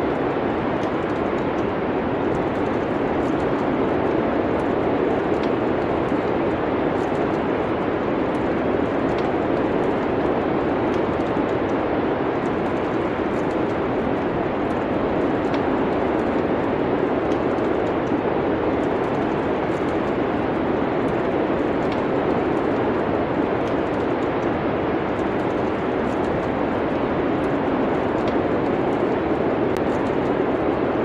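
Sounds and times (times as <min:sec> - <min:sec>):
steady rushing noise: 0:00.0 - 0:31.0
wood fire crackling: 0:00.0 - 0:31.0.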